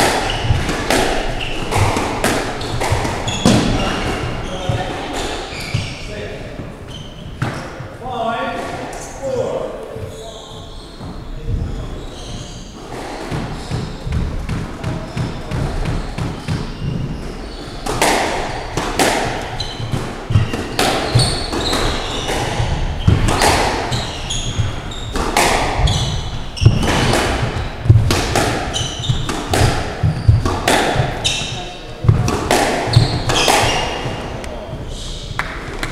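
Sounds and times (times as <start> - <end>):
squash ball hits: 0.0 - 5.9, 13.0 - 35.9
shoes squeaking on wooden floor: 0.0 - 35.9.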